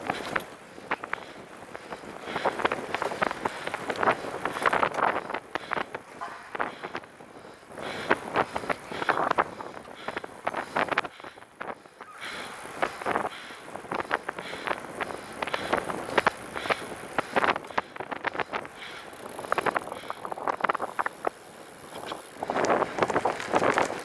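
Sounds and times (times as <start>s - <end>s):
trike rattles and crackles: 0.0s - 24.0s
wind on microphone: 0.0s - 24.0s.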